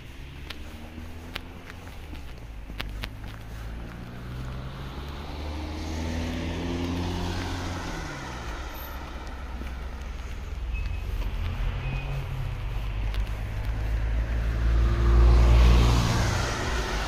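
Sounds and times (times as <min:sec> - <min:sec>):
vehicle approaching: 0:00.0 - 0:17.0
vehicle engine passing: 0:00.0 - 0:17.0
tyre hiss on wet road: 0:02.8 - 0:17.0.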